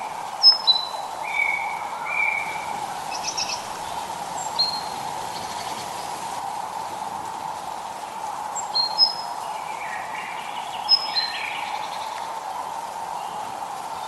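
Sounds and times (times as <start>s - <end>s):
light rain hiss: 0.0s - 14.0s
songbirds chirping: 0.0s - 14.0s.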